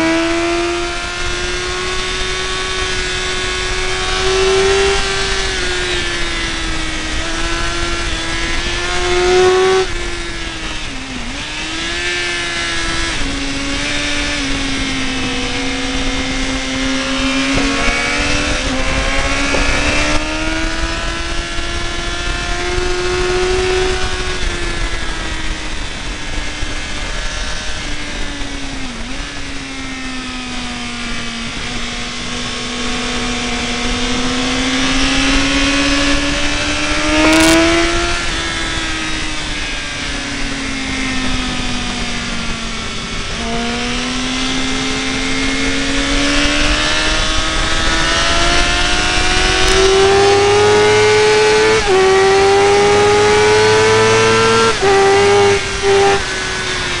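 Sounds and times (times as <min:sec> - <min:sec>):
rushing wind noise: 0:00.0 - 0:57.0
sportbike engine at speed: 0:00.0 - 0:57.0.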